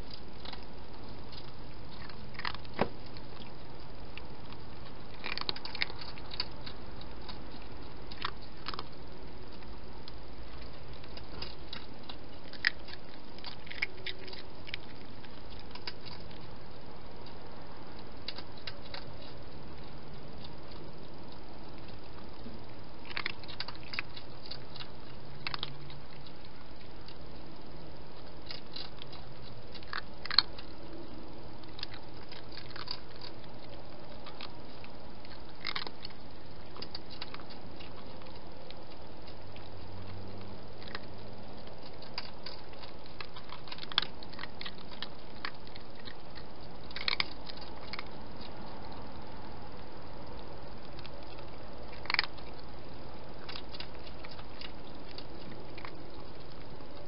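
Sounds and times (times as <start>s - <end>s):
cat crunching dry food: 0.0s - 57.0s.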